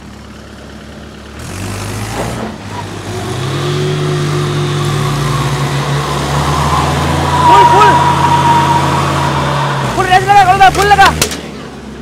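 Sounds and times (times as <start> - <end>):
engines revving under load: 0.0 - 12.0.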